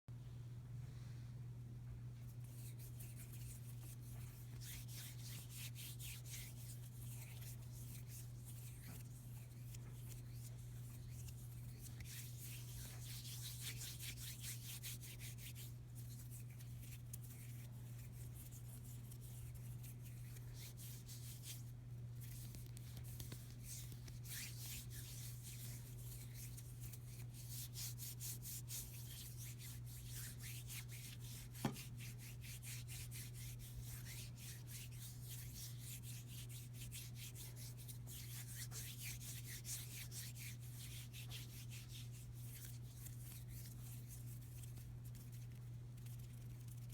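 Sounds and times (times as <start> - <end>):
hands rubbing together: 2.4 - 46.9.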